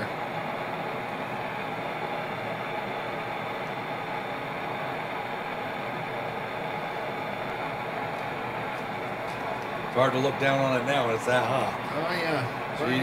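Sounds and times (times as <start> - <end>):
gas torch flames hissing: 0.0 - 13.0.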